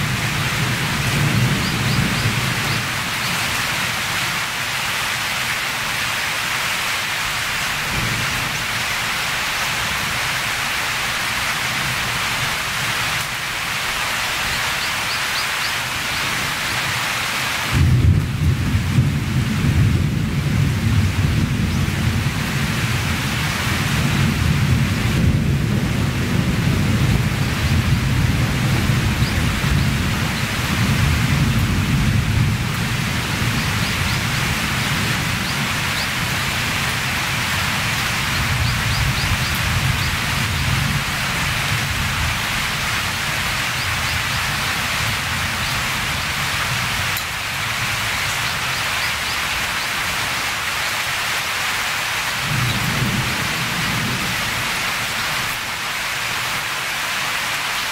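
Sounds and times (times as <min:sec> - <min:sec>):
wind rumbling: 0:00.0 - 0:56.6
rain falling: 0:00.0 - 0:57.9.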